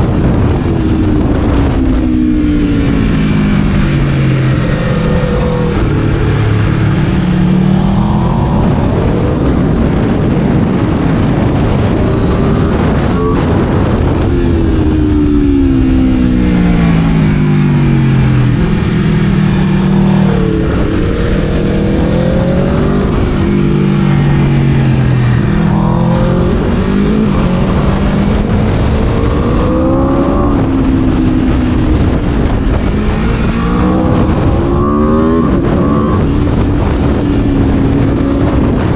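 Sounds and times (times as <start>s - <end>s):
constant rushing noise: 0.0s - 38.9s
motorcycle engine accelerating and braking: 0.0s - 38.9s.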